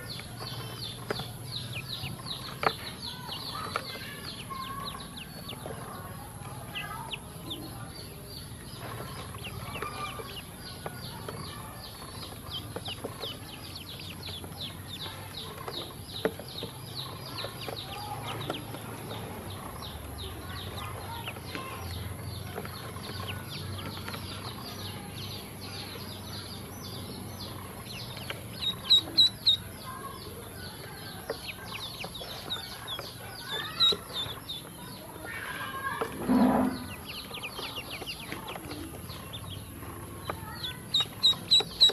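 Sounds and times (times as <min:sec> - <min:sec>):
ducklings peeping: 0:00.0 - 0:41.9.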